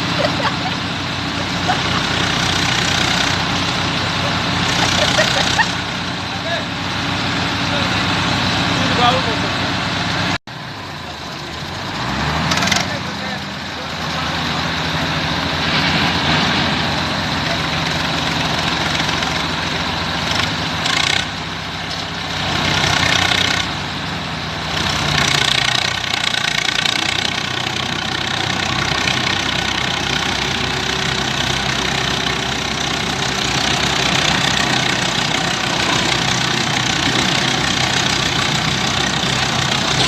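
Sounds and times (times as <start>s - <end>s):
heavy tractor engines running: 0.0s - 40.0s.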